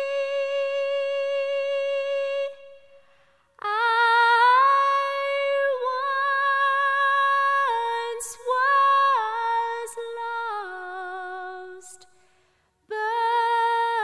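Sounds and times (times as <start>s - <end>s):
woman singing: 0.0s - 12.2s, 12.8s - 14.0s.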